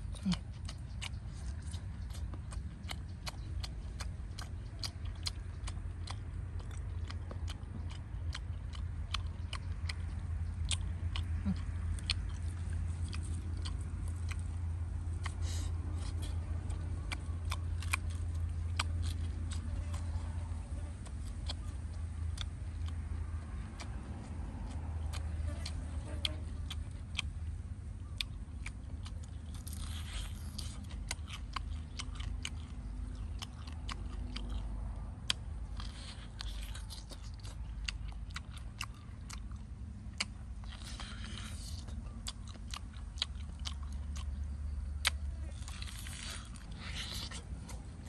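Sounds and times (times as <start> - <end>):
low steady rumble: 0.0 - 48.0.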